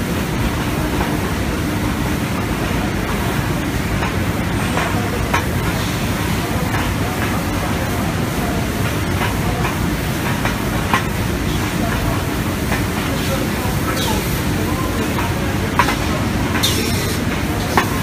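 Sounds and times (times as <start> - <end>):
machinery rumbling hiss: 0.0 - 18.0.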